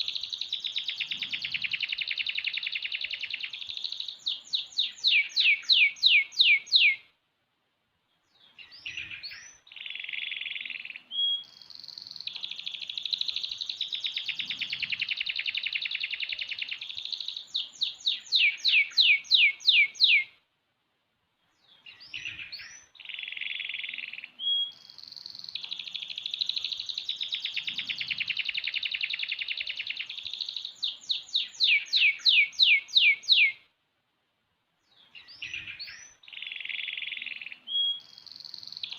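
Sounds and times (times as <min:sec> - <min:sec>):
canary singing trills: 0:00.0 - 0:07.1, 0:08.3 - 0:20.4, 0:21.6 - 0:33.7, 0:34.9 - 0:38.9.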